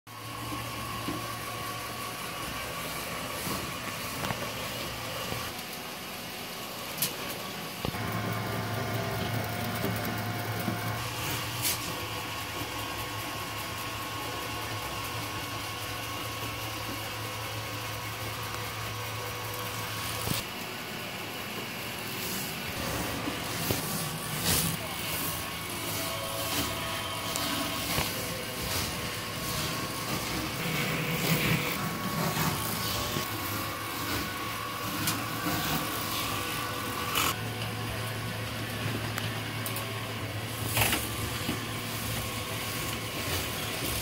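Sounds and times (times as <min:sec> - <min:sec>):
electric motor hum: 0:00.1 - 0:44.0.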